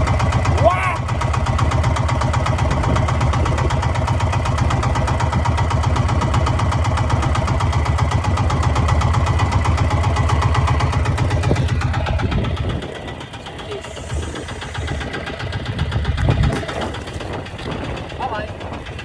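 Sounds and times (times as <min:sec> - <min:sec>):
boat engine chugging: 0:00.0 - 0:19.0.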